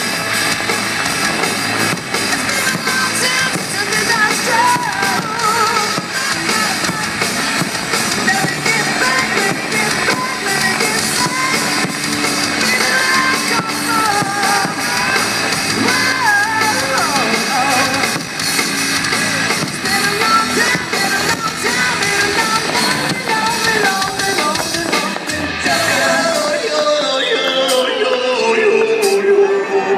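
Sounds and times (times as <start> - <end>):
loud rock song with singing: 0.0 - 29.9.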